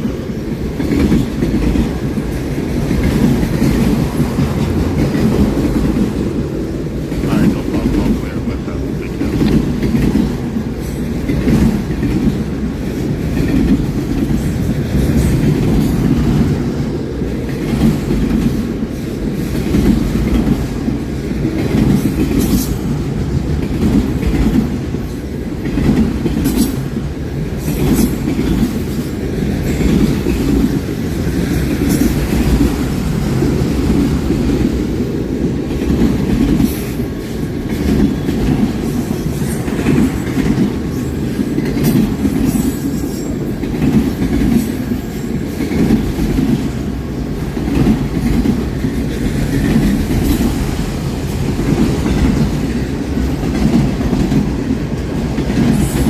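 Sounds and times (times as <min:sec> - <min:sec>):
train cars rumbling past: 0:00.0 - 0:56.0
wheels clacking over rail joints: 0:00.0 - 0:56.0.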